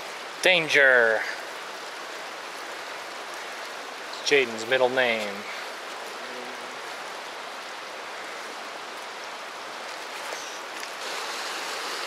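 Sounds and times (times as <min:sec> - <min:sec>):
creek water flowing over rocks: 0:00.0 - 0:12.0.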